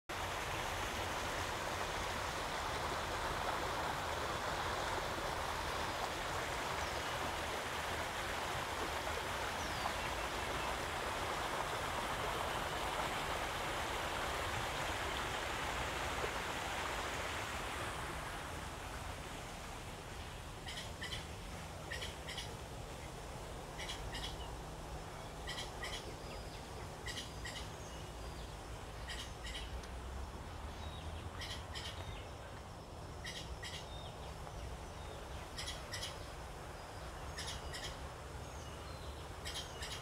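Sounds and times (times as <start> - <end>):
creek water running over stones: 0.1 - 40.0.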